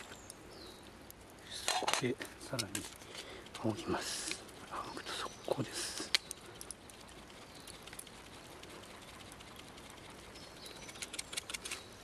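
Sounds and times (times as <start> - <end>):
low steady hiss: 0.0 - 12.0
small wood fire crackling: 0.0 - 12.0.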